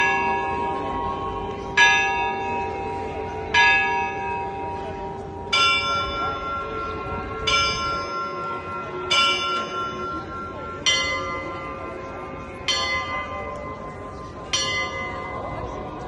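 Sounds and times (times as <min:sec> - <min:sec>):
church bells struck: 0:00.0 - 0:16.0.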